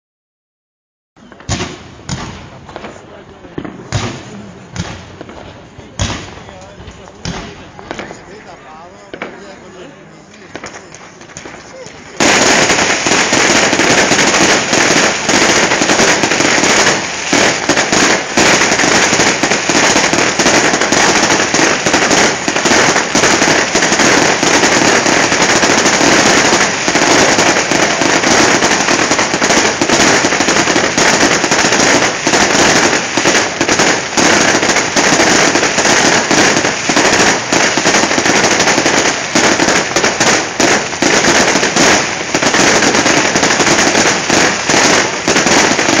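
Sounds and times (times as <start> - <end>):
fireworks cracking and banging: 1.2 - 46.0.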